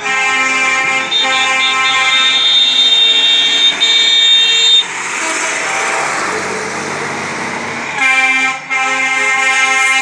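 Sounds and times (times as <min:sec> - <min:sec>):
truck horn blast: 0:00.0 - 0:06.2, 0:07.9 - 0:10.0
lorry diesel engines running: 0:00.0 - 0:10.0.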